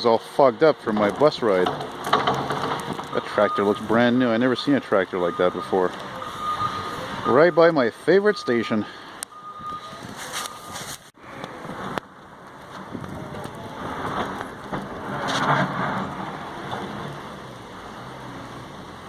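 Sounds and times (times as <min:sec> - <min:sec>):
street traffic: 0:00.0 - 0:19.0
wind: 0:00.0 - 0:19.0
vehicle passing: 0:00.6 - 0:08.2, 0:11.2 - 0:19.0.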